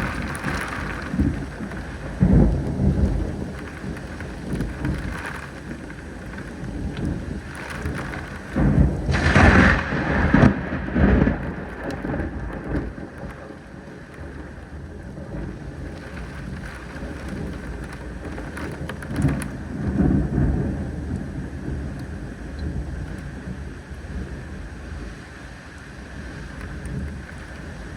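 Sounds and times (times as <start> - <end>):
thunder rolling: 0.0 - 25.1
steady rain: 0.0 - 27.9.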